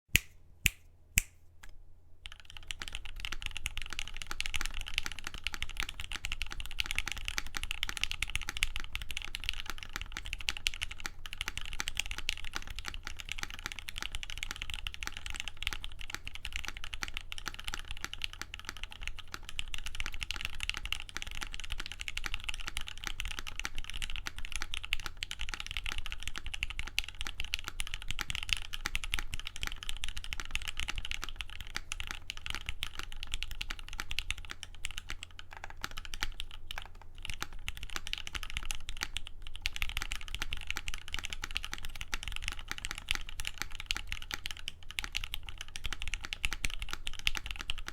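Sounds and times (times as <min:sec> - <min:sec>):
mechanical keyboard typing: 0:02.2 - 0:47.9.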